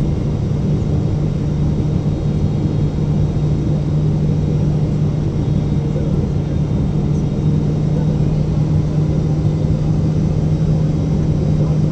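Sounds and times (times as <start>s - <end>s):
airplane cabin engine drone: 0.0s - 11.9s.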